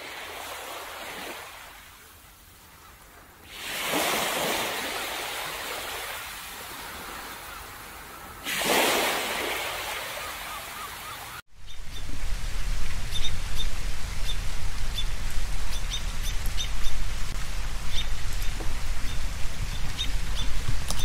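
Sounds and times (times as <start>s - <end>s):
ocean waves washing onto beach: 0.0s - 21.0s.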